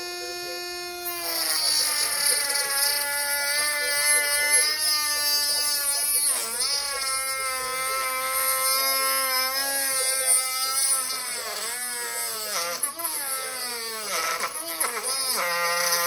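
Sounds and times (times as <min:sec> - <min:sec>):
rotary tool grinding plastic: 0:00.0 - 0:16.0.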